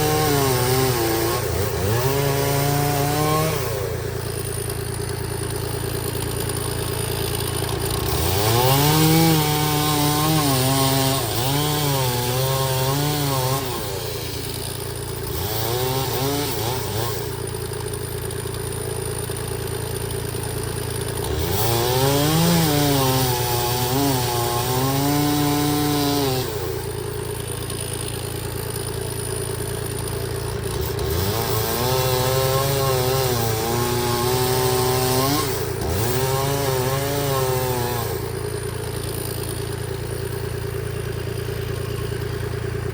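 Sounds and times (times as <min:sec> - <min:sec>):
chainsaw revving and cutting logs: 0:00.0 - 0:42.9.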